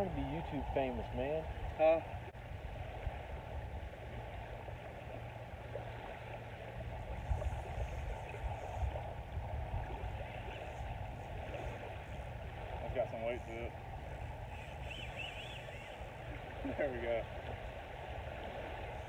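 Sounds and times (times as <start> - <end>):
low rumble: 0.0 - 19.0
small waves washing onto beach: 0.0 - 19.0.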